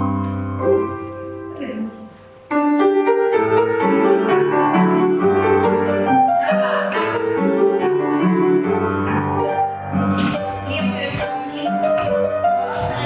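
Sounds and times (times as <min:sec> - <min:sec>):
piano accompaniment: 0:00.0 - 0:13.0.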